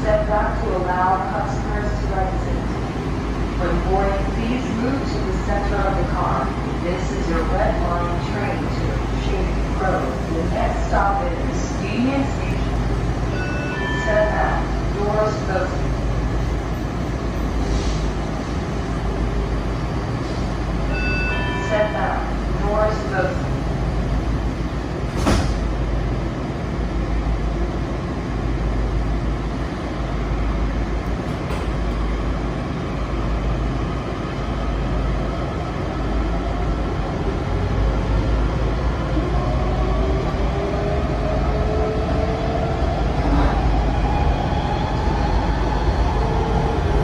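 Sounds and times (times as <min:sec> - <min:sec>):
train rumbling: 0:00.0 - 0:47.0.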